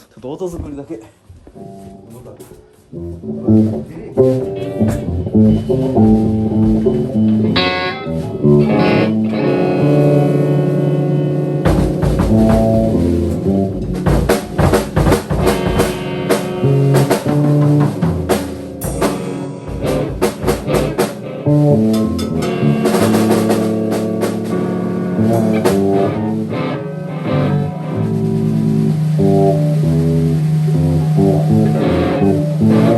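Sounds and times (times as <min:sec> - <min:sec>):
guitar sustained notes: 0:01.6 - 0:02.3, 0:02.9 - 0:32.9
drum kit playing: 0:02.9 - 0:32.9
bass sustained notes: 0:03.0 - 0:32.9.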